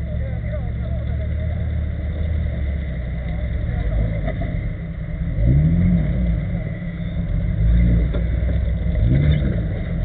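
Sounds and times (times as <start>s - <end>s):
car engine revving: 0.0s - 10.0s
low engine rumble: 0.0s - 10.0s.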